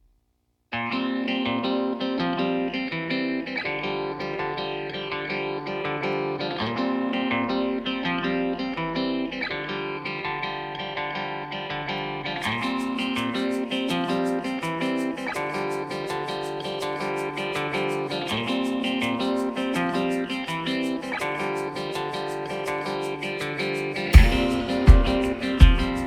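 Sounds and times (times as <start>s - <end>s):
plucked guitar music: 0.7s - 26.0s.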